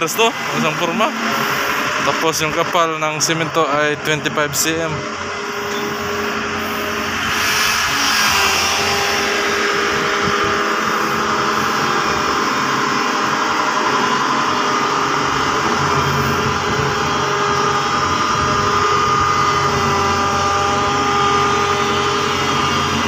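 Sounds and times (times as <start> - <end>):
road roller diesel engine: 0.0 - 23.0.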